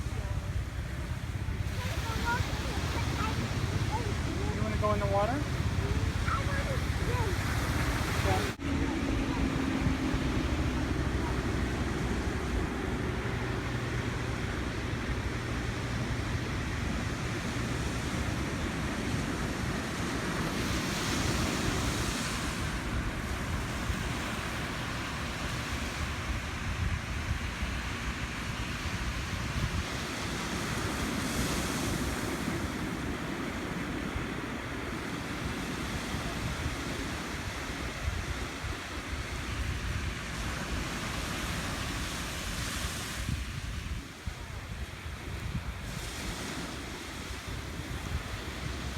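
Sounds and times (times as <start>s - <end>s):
waves breaking: 0.0s - 48.9s
waves washing on beach: 0.0s - 48.9s
wind buffeting microphone: 0.0s - 48.9s.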